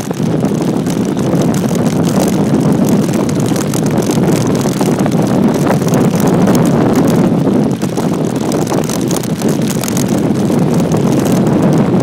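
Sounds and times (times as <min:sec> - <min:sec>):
bicycle tyres rumbling on gravel: 0:00.0 - 0:12.0
small rattles and clicks: 0:00.0 - 0:12.0
wind buffeting microphone: 0:00.0 - 0:12.0.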